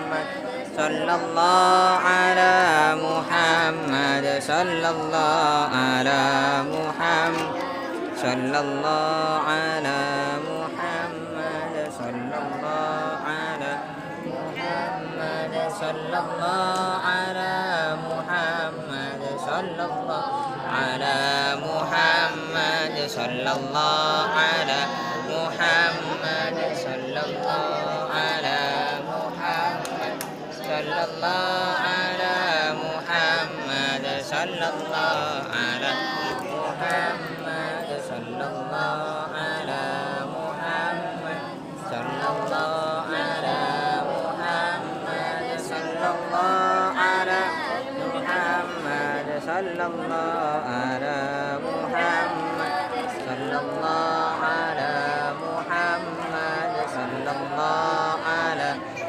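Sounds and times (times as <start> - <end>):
group of voices chanting: 0.0 - 59.0.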